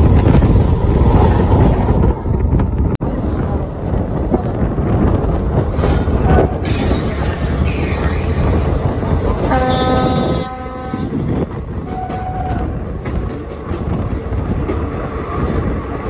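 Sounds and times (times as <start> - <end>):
train rumble and rattle: 0.0 - 16.0.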